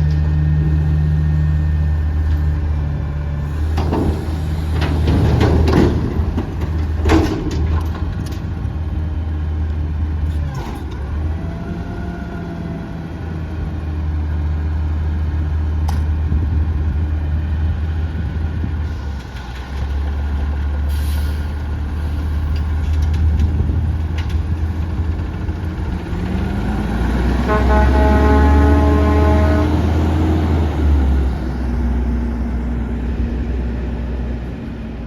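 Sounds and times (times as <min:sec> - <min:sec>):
garbage truck diesel engine: 0:00.0 - 0:35.0.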